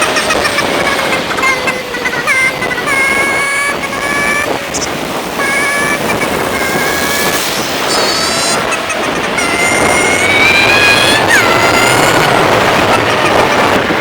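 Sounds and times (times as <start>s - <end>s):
high whining tones: 0.0s - 14.0s
wind and road noise: 0.0s - 14.0s.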